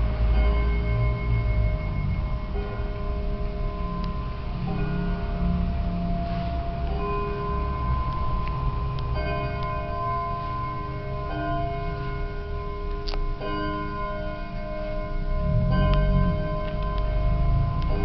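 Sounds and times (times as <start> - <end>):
pendulum clocks striking: 0.0 - 18.0.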